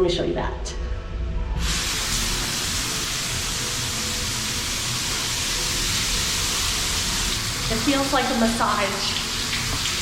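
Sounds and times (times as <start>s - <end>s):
shower water spray hissing: 1.6s - 10.0s.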